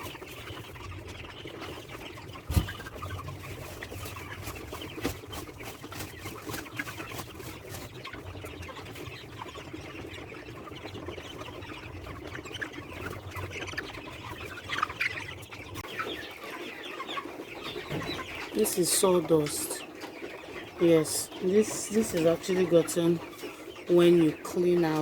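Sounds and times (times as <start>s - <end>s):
chickens chirping and clucking: 0.0s - 25.0s.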